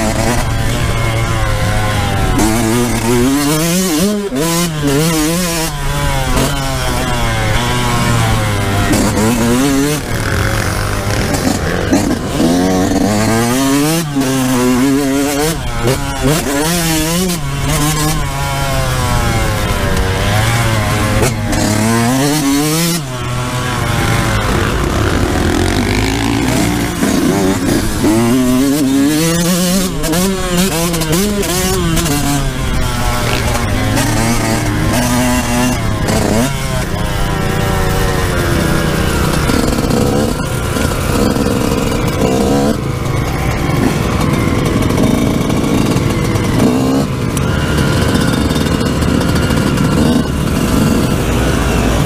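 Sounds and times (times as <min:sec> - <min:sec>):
two-stroke motorcycle engine revving: 0:00.0 - 0:52.0.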